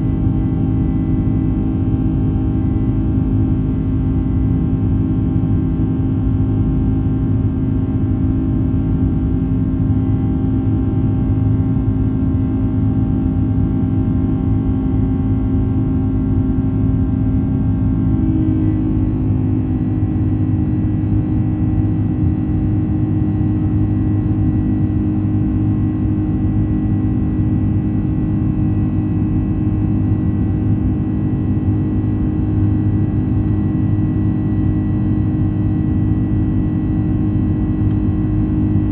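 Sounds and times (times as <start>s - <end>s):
jet cabin engine rumble: 0.0s - 38.9s.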